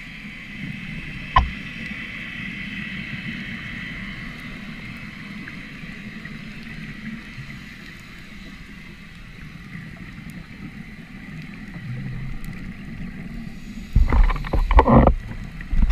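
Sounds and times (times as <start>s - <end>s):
underwater rumble and hiss: 0.0s - 15.9s
scuba exhaust bubbles: 0.7s - 15.9s.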